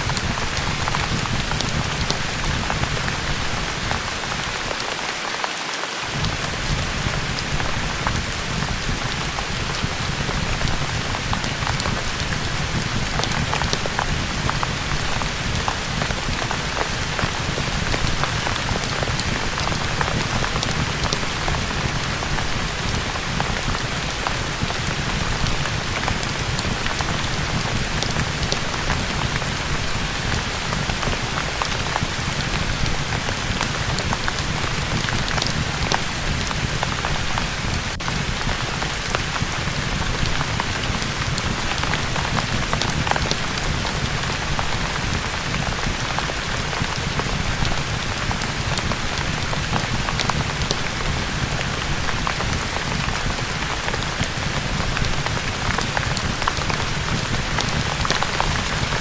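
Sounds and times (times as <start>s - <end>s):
wood fire crackling: 0.0s - 4.8s, 6.1s - 59.0s
steady rain: 0.0s - 59.0s.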